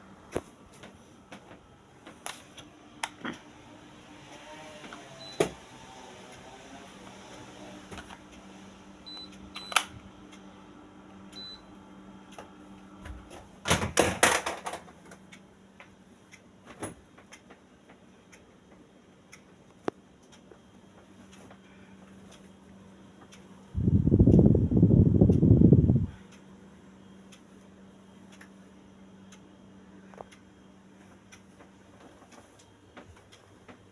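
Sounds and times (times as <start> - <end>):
air conditioner humming: 0.0 - 33.9.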